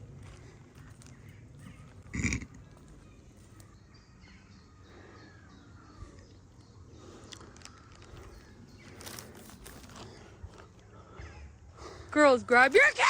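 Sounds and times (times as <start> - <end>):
faint bird calls: 0.0 - 12.1
low outdoor background noise: 0.0 - 13.0.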